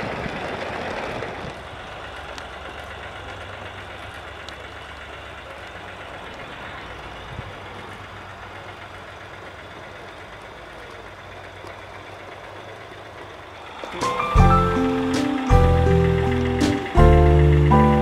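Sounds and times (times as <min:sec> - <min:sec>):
diesel engine sound through small speaker: 0:00.0 - 0:18.0.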